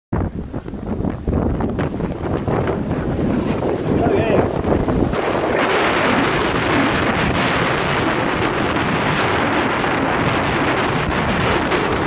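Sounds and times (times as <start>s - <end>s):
gusty wind buffeting microphone: 0.1s - 12.0s.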